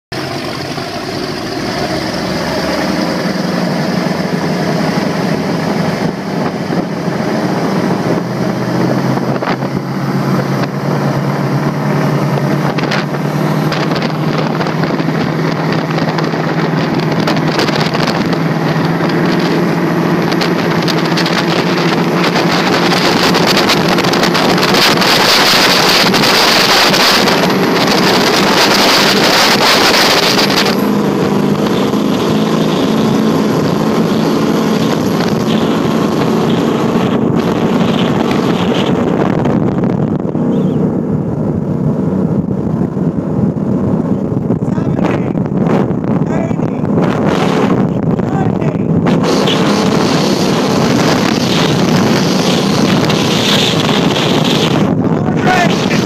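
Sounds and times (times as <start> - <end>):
powerboat engines droning: 0.1 - 56.0
water rushing past boat: 0.1 - 56.0
wind rushing: 0.1 - 56.0.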